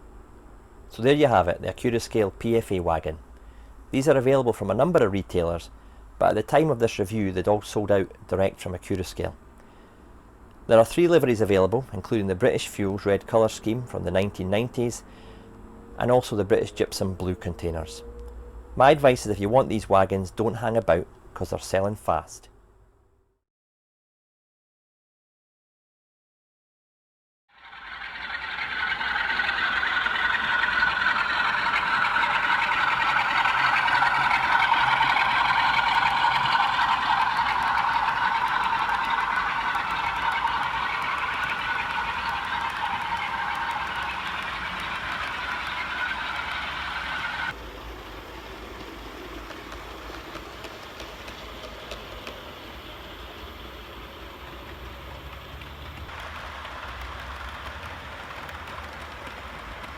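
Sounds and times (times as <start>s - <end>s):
model train wheels rumbling on rail: 0.0s - 22.2s, 27.6s - 59.9s.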